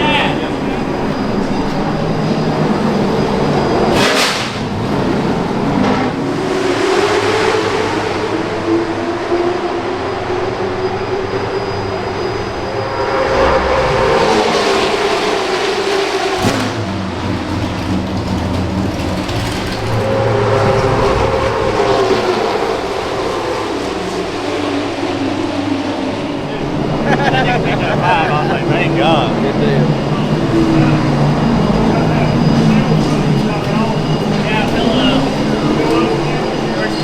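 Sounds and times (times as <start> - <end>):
race car engines passing: 0.0 - 37.0.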